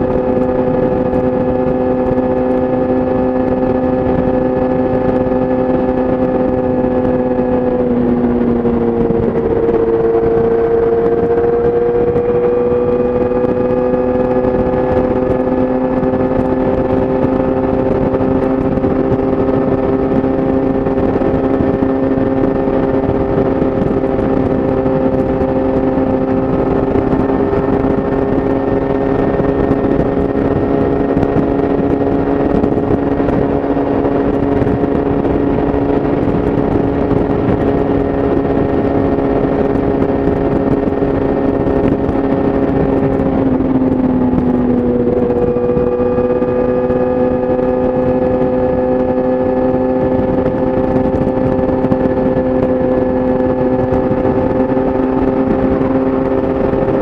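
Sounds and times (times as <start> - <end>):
motorcycle engine cruising: 0.0 - 57.0
steady rushing noise: 0.0 - 57.0.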